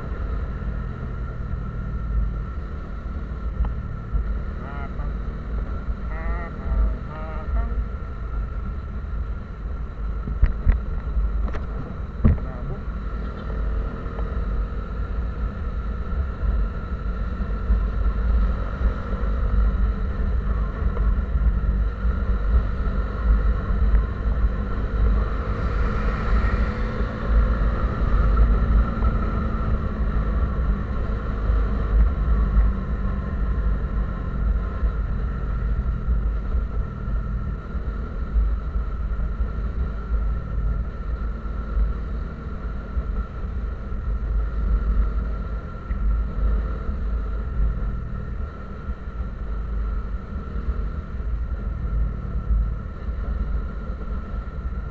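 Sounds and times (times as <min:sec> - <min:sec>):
vehicle engine and road rumble: 0:00.0 - 0:54.9.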